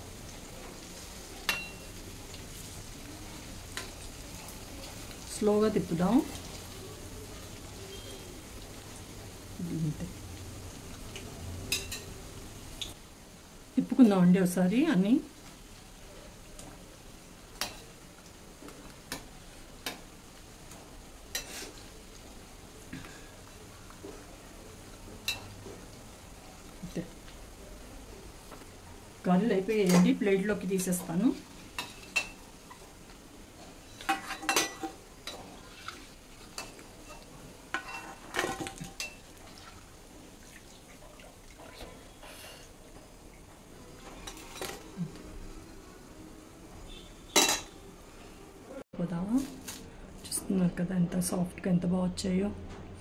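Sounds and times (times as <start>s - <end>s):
food deep-frying in hot oil: 0.0s - 50.4s.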